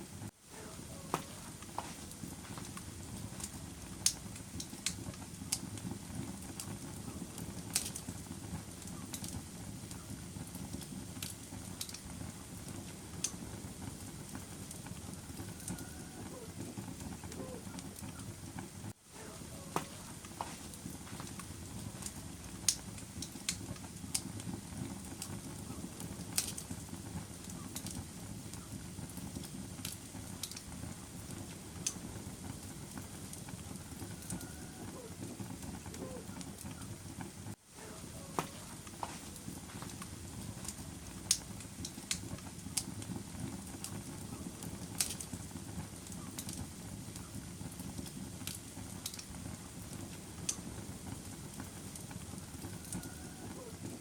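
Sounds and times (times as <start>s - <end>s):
low rush of flame: 0.0s - 54.0s
wood fire crackling and popping: 0.0s - 54.0s.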